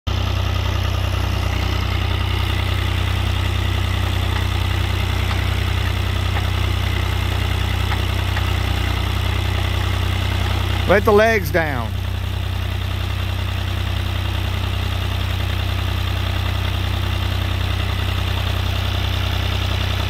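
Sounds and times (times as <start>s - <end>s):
backhoe engine idling: 0.1s - 20.0s.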